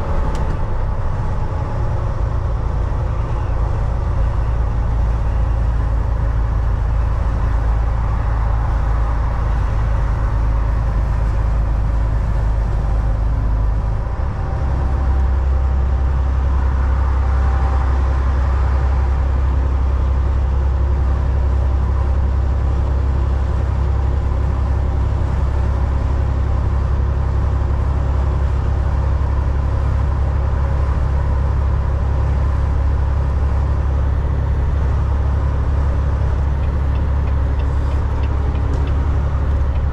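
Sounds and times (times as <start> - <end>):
diesel engine drone: 0.0 - 39.9
road noise: 0.0 - 39.9.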